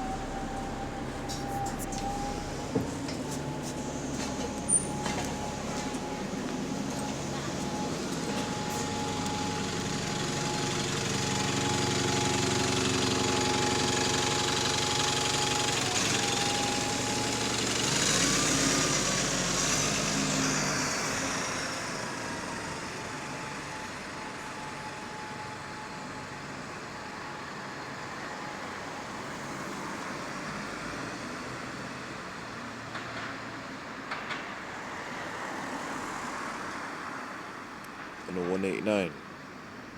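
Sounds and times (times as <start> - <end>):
bus drivetrain accelerating: 0.0 - 38.4.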